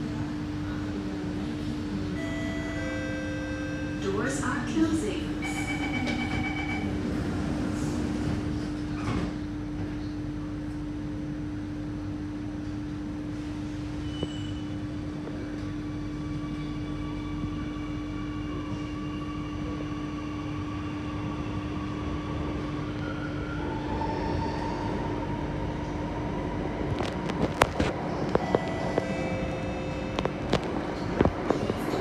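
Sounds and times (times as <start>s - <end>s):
metro train rumbling: 0.0s - 32.0s.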